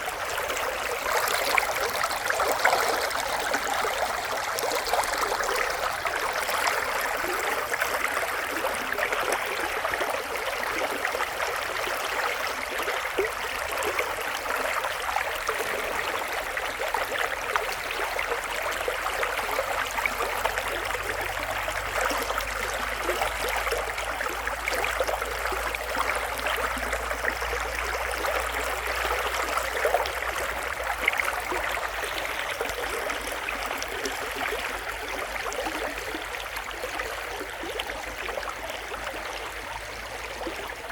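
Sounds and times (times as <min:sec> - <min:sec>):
small water splashes: 0:00.0 - 0:40.9.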